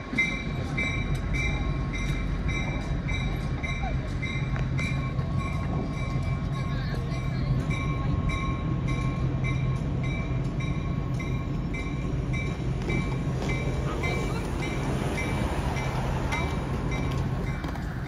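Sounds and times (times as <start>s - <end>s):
crossing bell ringing: 0.0s - 18.0s
freight train rumble: 0.0s - 18.0s.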